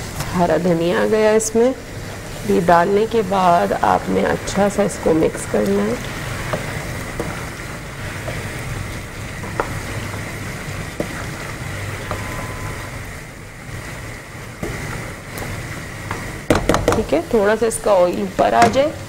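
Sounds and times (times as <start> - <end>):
stove rushing noise: 0.0 - 19.0.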